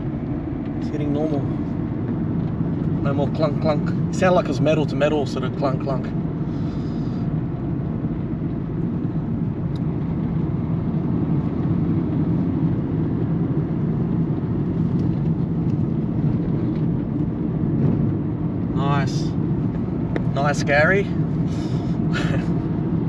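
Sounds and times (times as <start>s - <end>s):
in-cabin road and engine noise: 0.0s - 23.0s.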